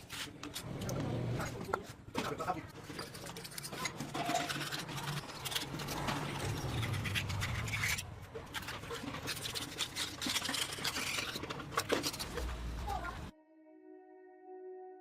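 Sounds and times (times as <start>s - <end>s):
scraping on hard surface: 0.0s - 13.3s.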